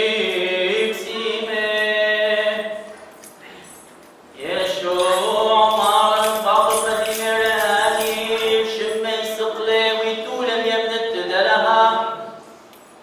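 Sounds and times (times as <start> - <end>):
man chanting: 0.0 - 2.9, 4.4 - 12.4.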